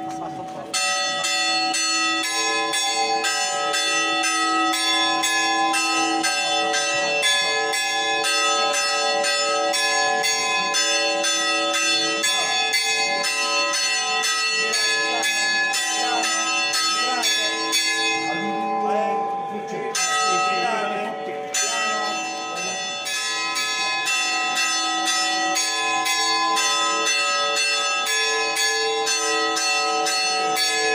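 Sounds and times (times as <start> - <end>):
church bells ringing a peal: 0.0 - 30.9.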